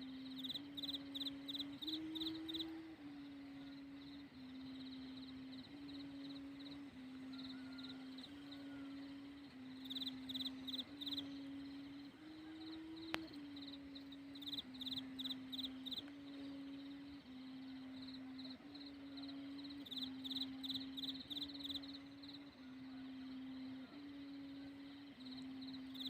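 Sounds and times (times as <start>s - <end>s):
kite hummer droning: 0.0s - 26.0s.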